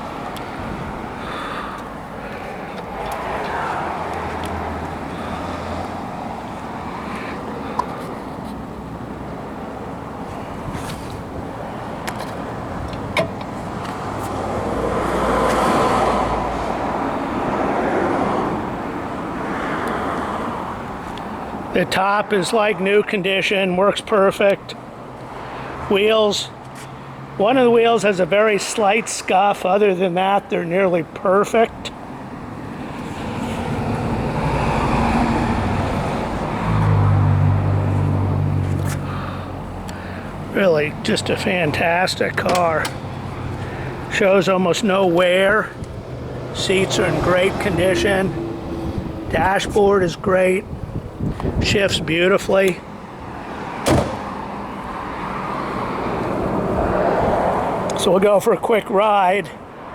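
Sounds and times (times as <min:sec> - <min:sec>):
passing vehicle: 0:00.0 - 0:23.1, 0:24.7 - 0:29.0, 0:31.1 - 0:59.9
road noise hiss: 0:00.0 - 0:59.9.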